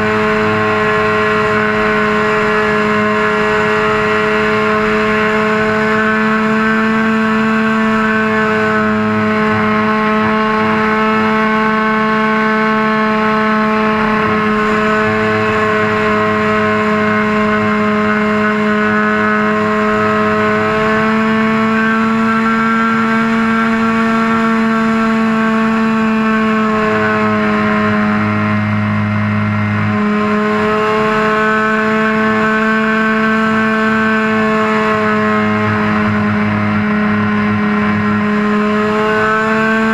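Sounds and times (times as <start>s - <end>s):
model airplane motor running: 0.0s - 39.9s.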